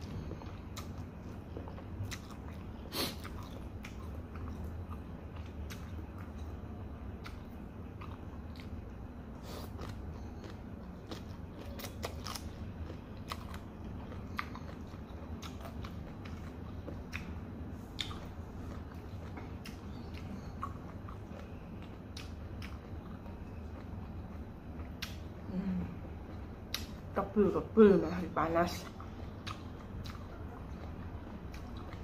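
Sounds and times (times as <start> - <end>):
person chewing noodles: 0.0 - 27.1, 28.7 - 32.0
steady low hum: 0.0 - 32.0.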